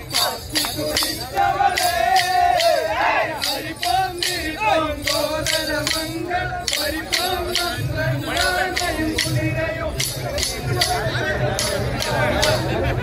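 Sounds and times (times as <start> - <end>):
percussion strokes: 0.0 - 13.0
wavering melody: 0.0 - 13.0.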